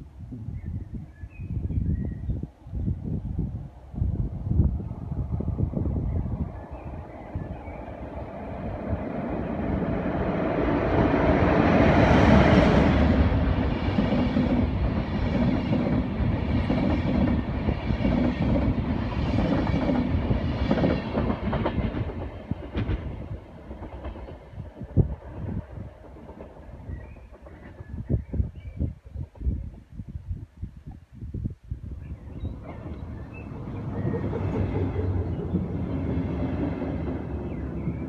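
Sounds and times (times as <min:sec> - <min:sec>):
electric locomotive rumble: 0:03.3 - 0:29.6, 0:32.3 - 0:38.0.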